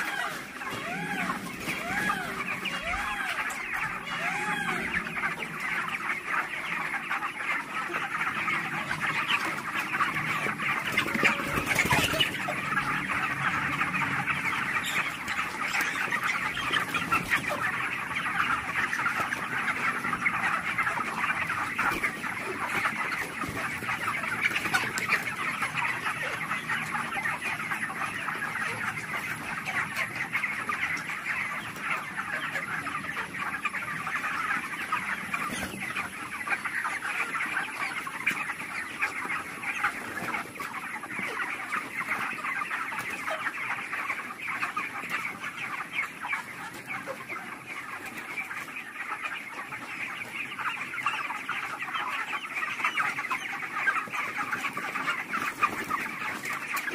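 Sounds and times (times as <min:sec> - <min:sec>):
flock of chickens calling: 0:00.0 - 0:56.9.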